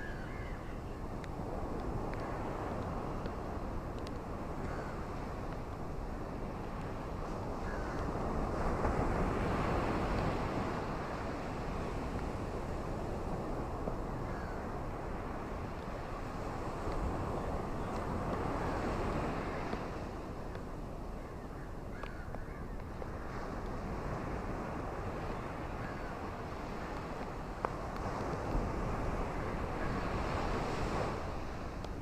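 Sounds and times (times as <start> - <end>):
ocean waves washing ashore: 0.0 - 32.0.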